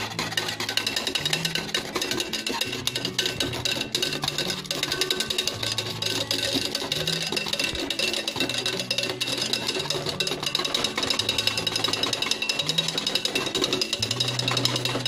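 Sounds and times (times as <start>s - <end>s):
whisk rattling in steel saucepan: 0.0s - 15.0s.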